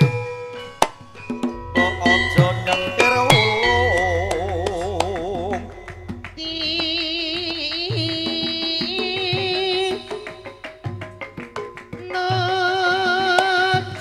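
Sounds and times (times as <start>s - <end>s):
drum strokes: 0.0s - 14.0s
high sung melody with vibrato: 0.0s - 14.0s
struck metallophones: 0.0s - 14.0s.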